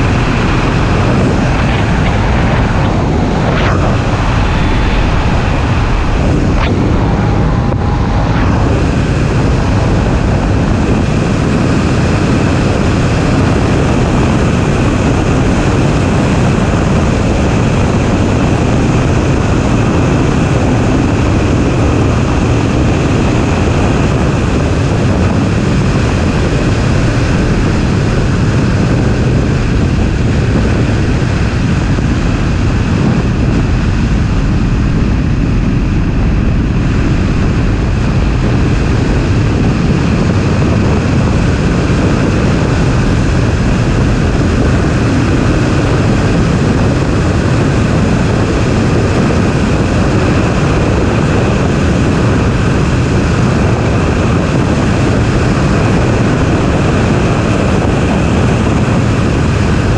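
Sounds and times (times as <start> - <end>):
car engine and wind rushing: 0.0 - 59.9.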